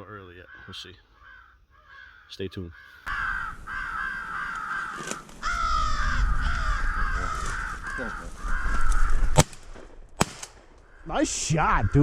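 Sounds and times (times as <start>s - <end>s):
crows cawing: 0.2s - 9.6s, 10.8s - 12.0s.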